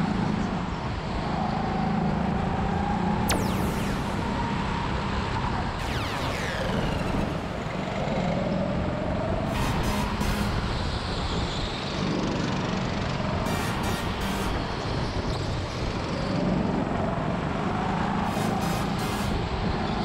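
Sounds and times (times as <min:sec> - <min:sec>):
go-kart motor and tyre noise: 0:00.0 - 0:20.0.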